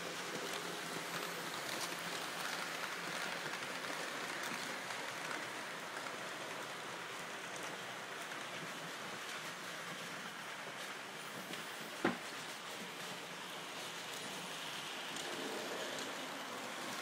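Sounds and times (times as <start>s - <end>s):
model train rolling on metal track: 0.0s - 17.0s.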